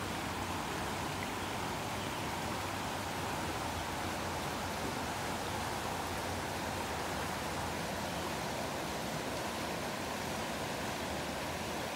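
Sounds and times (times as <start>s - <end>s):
river rushing over riffles: 0.0s - 11.9s.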